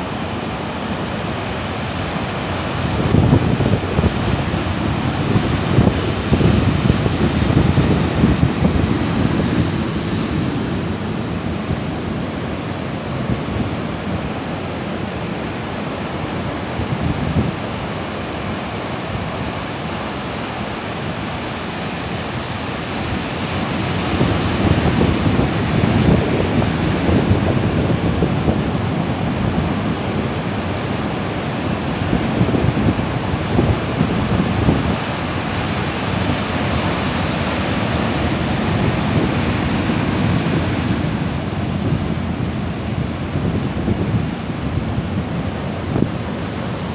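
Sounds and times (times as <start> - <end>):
ocean waves crashing on rocks: 0.0 - 46.9
wind buffeting microphone: 1.0 - 46.9.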